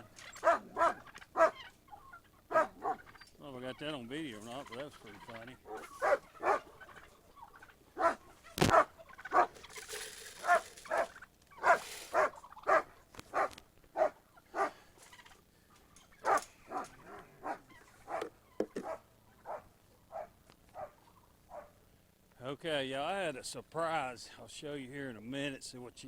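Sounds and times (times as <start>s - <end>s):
poultry calling: 0.0s - 21.8s.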